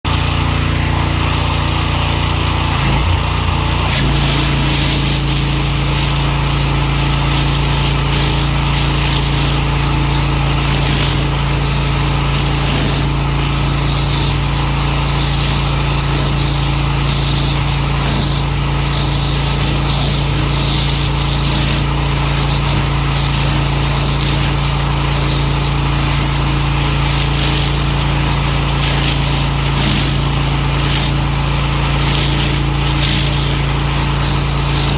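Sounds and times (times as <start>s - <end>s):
pressure washer humming: 0.0s - 34.9s
spray jet hissing: 0.1s - 34.9s.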